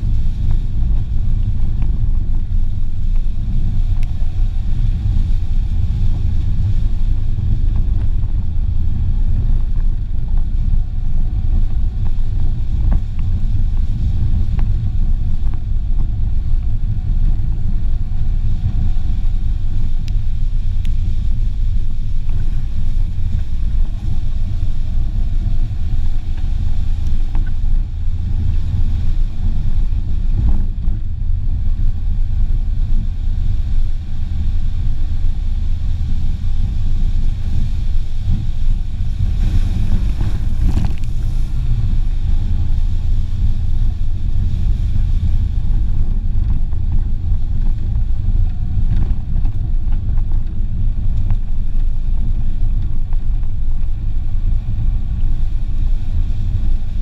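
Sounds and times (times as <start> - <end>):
car driving on dirt track: 0.0 - 57.0
wind on microphone: 0.0 - 57.0.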